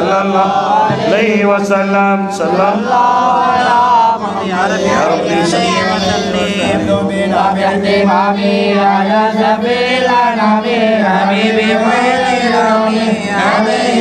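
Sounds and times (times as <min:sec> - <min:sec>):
men chanting: 0:00.0 - 0:14.0.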